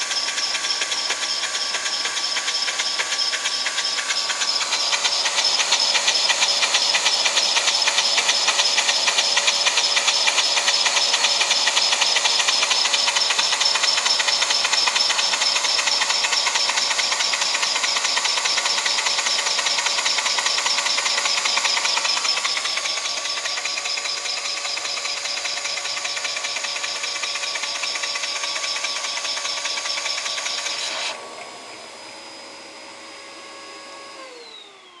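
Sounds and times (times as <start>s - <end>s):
toy vacuum engine clattering: 0.0s - 31.2s
vacuum cleaner motor whine: 0.0s - 35.0s.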